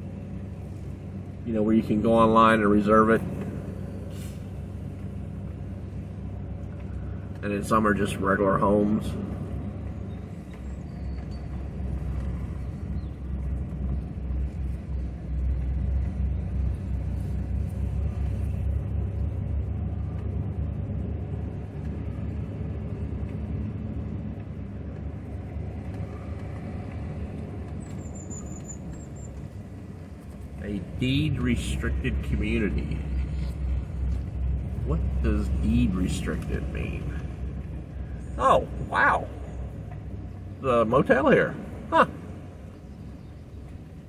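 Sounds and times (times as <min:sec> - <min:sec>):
pickup engine and tyre rumble: 0:00.0 - 0:44.0.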